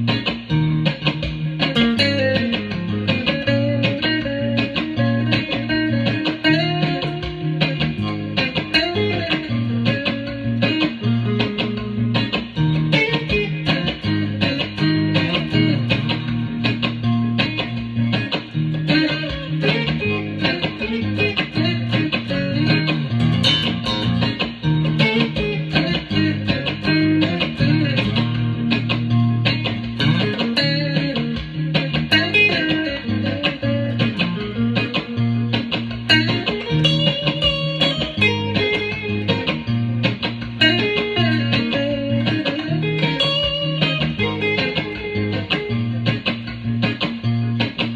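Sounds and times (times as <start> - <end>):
electric guitar playing: 0.0 - 47.9
low bass notes: 0.0 - 47.9.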